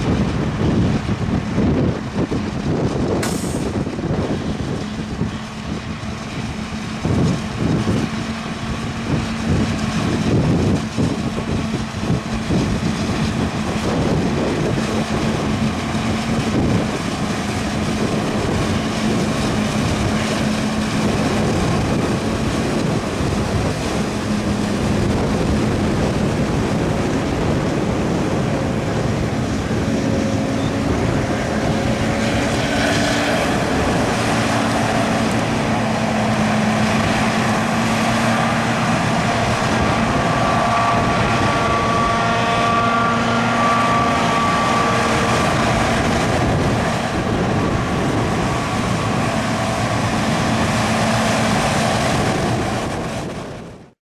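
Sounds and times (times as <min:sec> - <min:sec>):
forage harvester chopping corn: 0:00.0 - 0:53.0.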